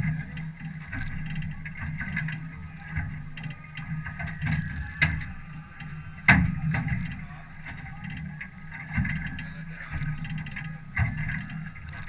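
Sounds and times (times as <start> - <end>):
boat low hum: 0.0 - 12.0.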